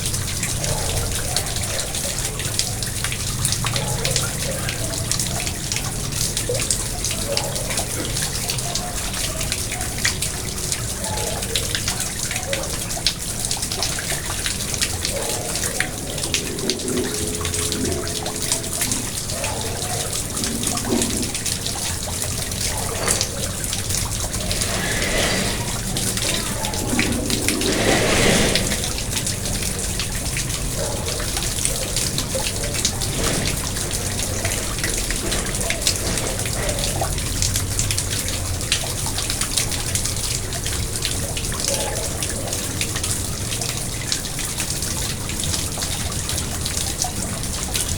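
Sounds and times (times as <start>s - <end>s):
water splashing and trickling: 0.0s - 47.9s.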